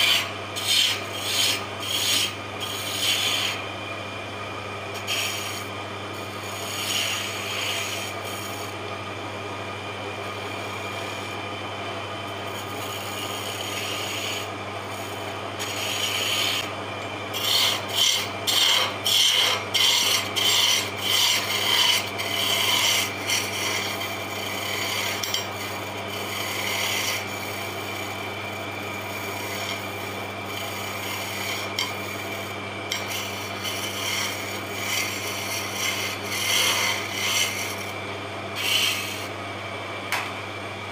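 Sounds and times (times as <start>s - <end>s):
chisel scraping spinning wood: 0.0s - 9.0s, 10.1s - 39.4s
lathe motor hum: 0.0s - 40.9s.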